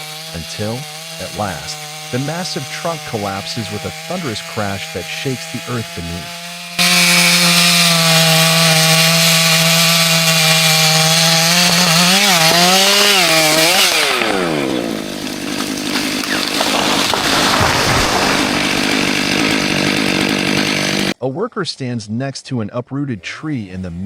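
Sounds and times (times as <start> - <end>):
chainsaw cutting wood: 0.0 - 21.2.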